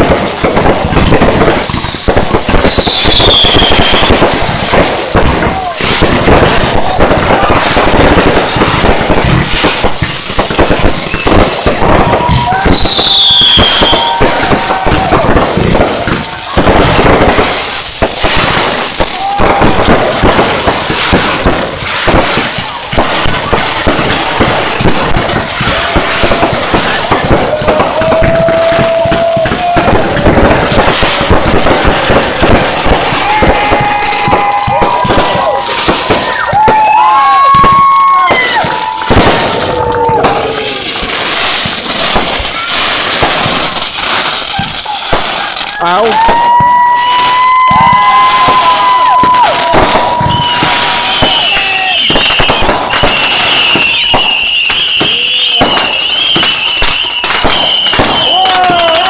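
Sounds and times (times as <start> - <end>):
descending firework whistle: 0.0 - 59.0
fireworks crackling and popping: 0.0 - 59.0.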